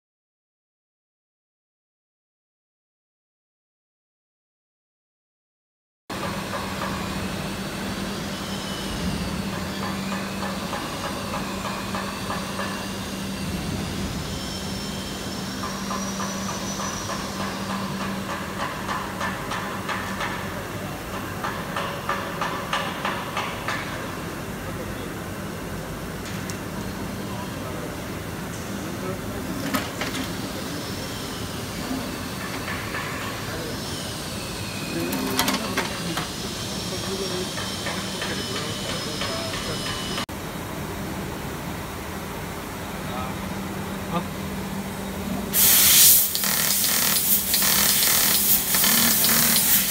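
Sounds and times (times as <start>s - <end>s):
factory machinery hum and hiss: 6.1s - 49.9s.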